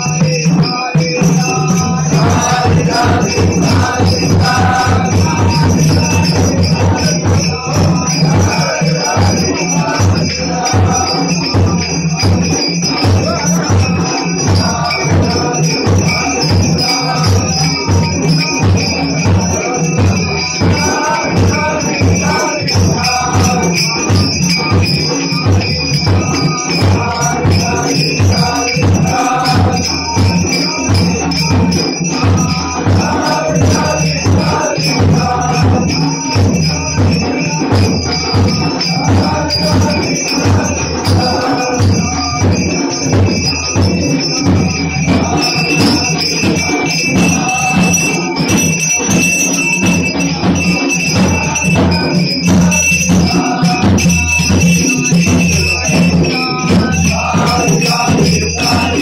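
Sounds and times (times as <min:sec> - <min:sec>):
drum beat: 0:00.0 - 0:59.0
group singing: 0:00.0 - 0:59.0
jingling metal percussion: 0:00.0 - 0:59.0.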